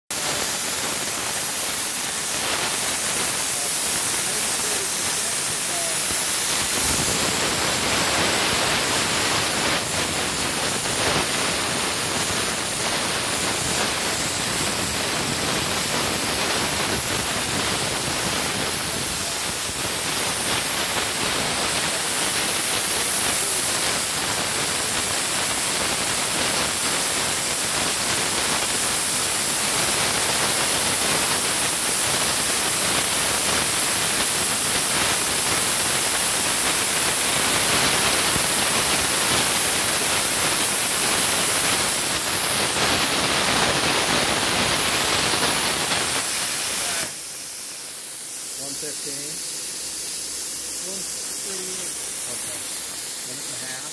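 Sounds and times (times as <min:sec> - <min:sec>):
cutting torch hissing: 0:00.1 - 0:53.9.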